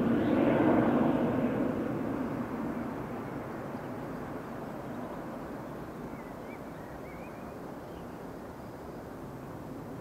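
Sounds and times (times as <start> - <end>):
jet engine rumble: 0.0 - 10.0.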